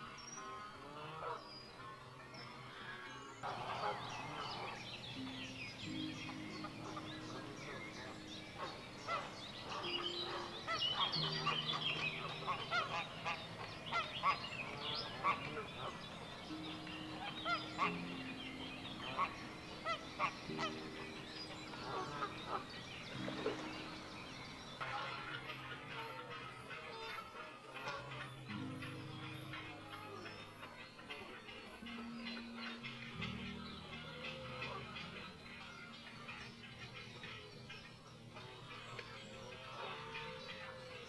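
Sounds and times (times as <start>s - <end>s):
geese honking: 0.0s - 41.0s
soft music of held notes: 0.0s - 41.0s.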